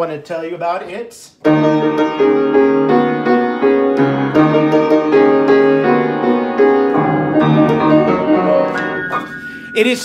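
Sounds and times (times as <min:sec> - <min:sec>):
upright piano chords and melody: 0:01.4 - 0:10.0.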